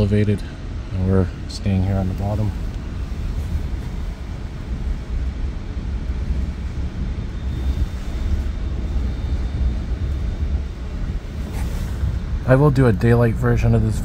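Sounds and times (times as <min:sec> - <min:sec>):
faint high whine: 0:00.0 - 0:14.0
train rumble inside coach: 0:00.0 - 0:14.0.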